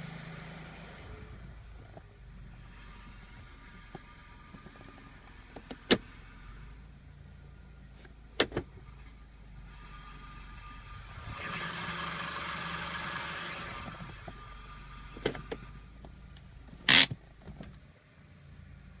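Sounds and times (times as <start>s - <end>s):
car idling: 0.0s - 19.0s.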